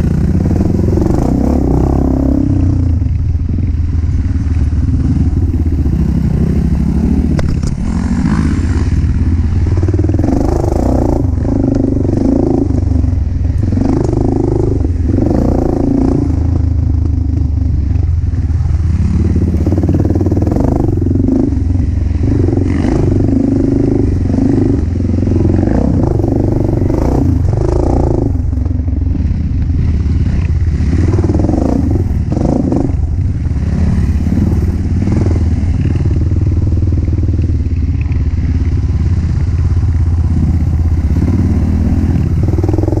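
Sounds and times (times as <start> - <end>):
dirt bike engine revving: 0.0 - 3.0, 4.3 - 43.0.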